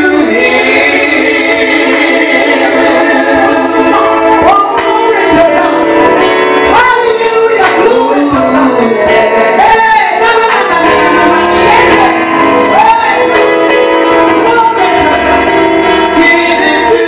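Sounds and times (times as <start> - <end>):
woman singing gospel through pa: 0.0 - 13.7, 14.3 - 17.0
sustained backing notes: 0.0 - 17.0.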